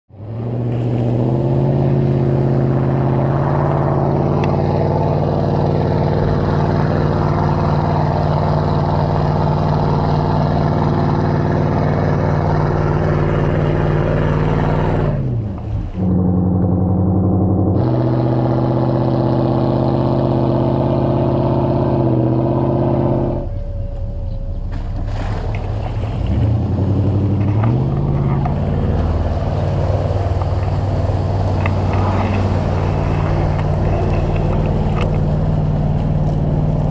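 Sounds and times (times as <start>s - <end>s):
truck engine at high revs: 0.1s - 36.9s.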